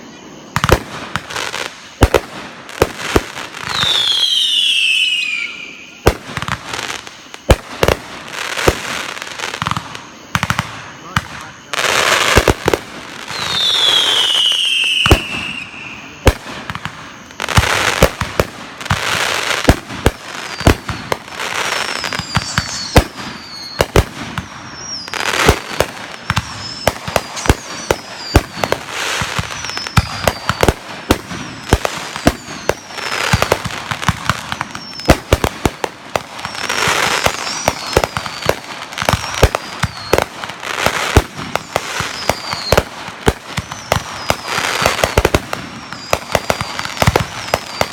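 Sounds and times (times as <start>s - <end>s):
falling fireworks whistles: 0.0s - 47.9s
fireworks bangs and crackles: 0.0s - 47.9s
fireworks hissing: 0.0s - 47.9s.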